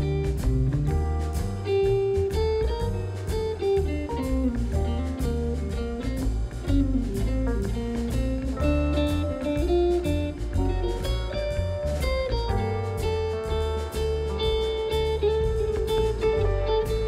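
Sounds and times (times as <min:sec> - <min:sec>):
guitar instrumental music: 0:00.0 - 0:17.0.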